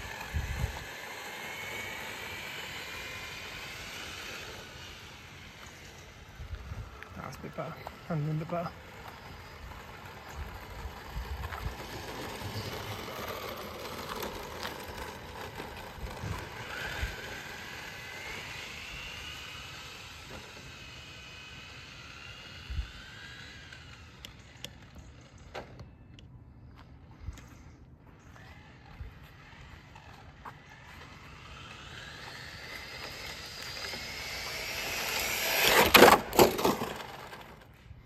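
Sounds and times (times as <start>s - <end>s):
rc car motor whining: 0.0s - 26.3s, 27.2s - 38.0s.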